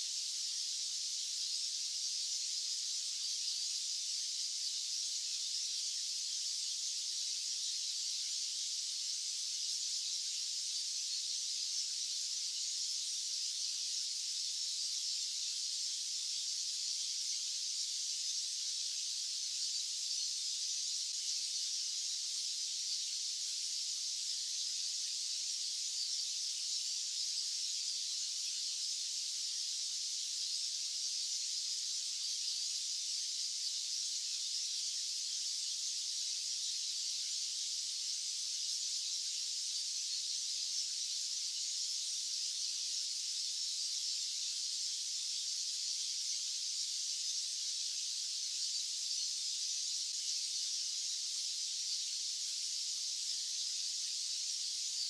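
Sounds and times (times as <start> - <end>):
high-pitched white-noise hiss: 0.0 - 55.0.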